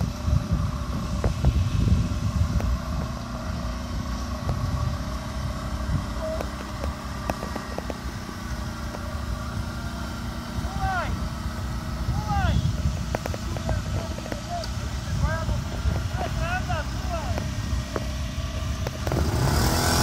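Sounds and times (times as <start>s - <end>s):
quad bike engines rumbling: 0.0s - 20.0s.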